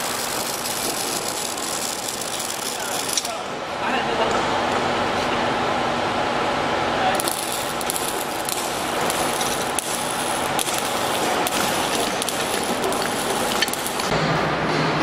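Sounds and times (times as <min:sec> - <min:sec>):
workshop noise hiss: 0:00.0 - 0:15.0.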